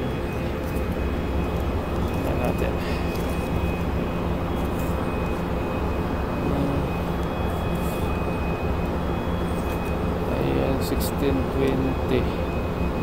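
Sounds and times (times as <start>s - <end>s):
factory machinery hum: 0.0s - 13.0s
faint high whine: 0.0s - 13.0s.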